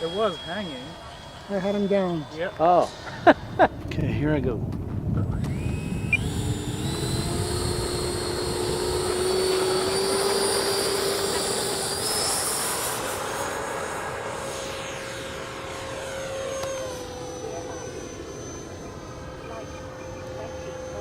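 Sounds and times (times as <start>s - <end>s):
electric jet fan whine: 0.0s - 21.0s.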